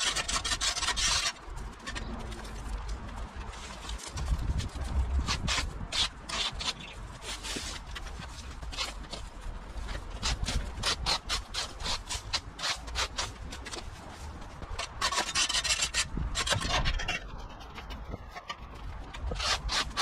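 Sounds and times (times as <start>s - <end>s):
rake scraping over brick paving: 0.0s - 20.0s.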